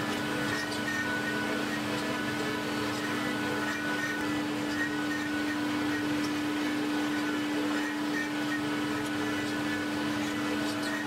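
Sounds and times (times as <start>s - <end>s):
electric machine hum: 0.0s - 11.0s.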